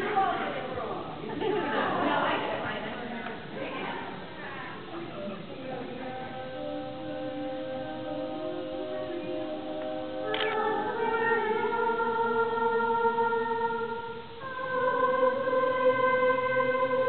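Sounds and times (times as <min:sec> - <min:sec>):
women's chorus singing in harmony: 0:00.0 - 0:17.0.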